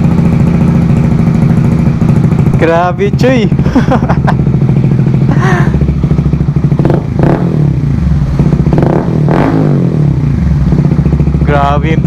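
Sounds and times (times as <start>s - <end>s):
motorcycle exhaust thumping: 0.0s - 12.0s.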